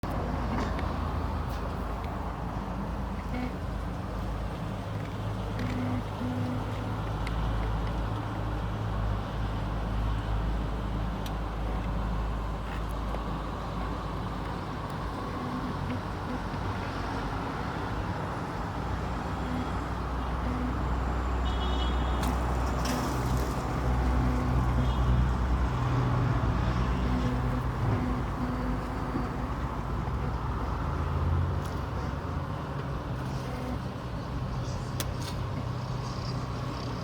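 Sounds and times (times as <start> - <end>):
motor vehicle running: 0.0 - 21.4, 22.2 - 37.0
road and traffic noise: 0.0 - 37.0.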